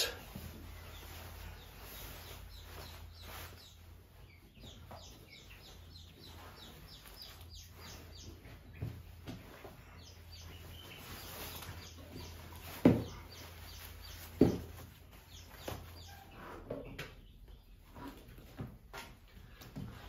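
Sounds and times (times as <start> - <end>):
birds chirping faintly: 0.0 - 20.0.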